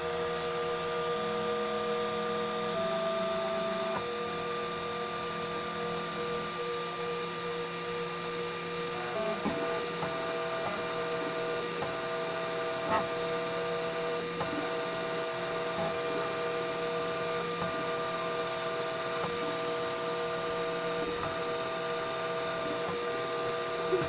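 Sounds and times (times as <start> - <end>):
stepper motors whining: 2.8 - 24.0.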